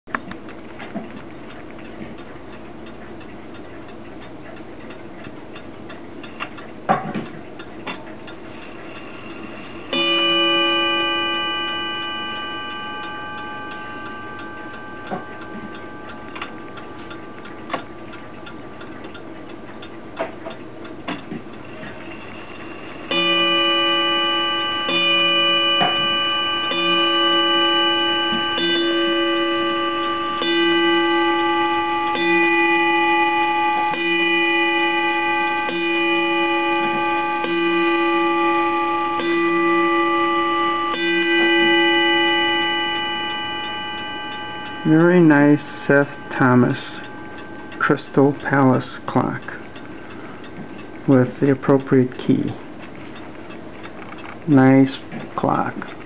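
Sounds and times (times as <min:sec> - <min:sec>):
clock movement ticks and clicks: 0:00.1 - 0:56.0
clock striking gong: 0:05.9 - 0:53.7.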